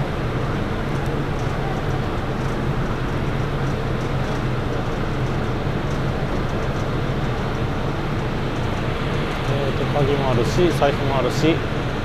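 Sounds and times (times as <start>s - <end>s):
ferry engines humming: 0.0s - 12.0s.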